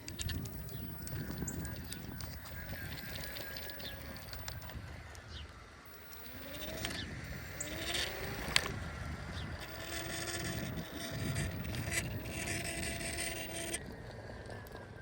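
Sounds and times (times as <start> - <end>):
heat pump low hum: 0.0 - 15.0
motor whine: 0.0 - 15.0.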